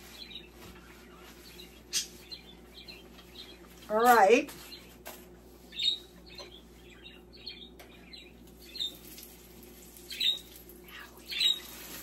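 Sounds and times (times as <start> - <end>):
bird chirping: 0.0 - 5.0, 5.6 - 12.0
faint steady hum: 0.0 - 12.0.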